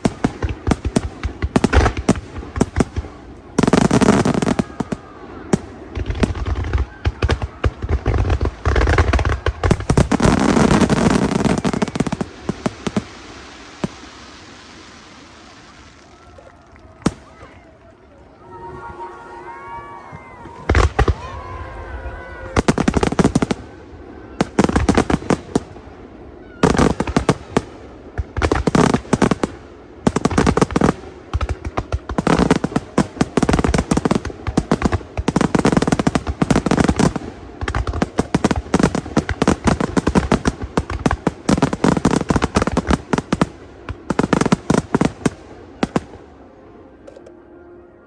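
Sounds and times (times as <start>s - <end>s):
fireworks bangs and crackles: 0.0s - 17.8s, 18.4s - 46.8s.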